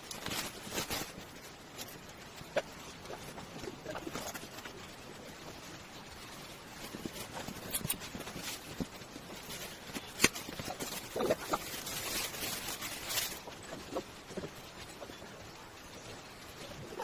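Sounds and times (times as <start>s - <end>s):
packaging rustling: 0.0s - 15.3s.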